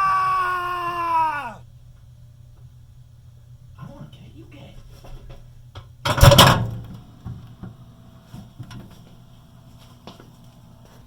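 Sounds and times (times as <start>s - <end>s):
microwave low hum: 0.0s - 11.0s.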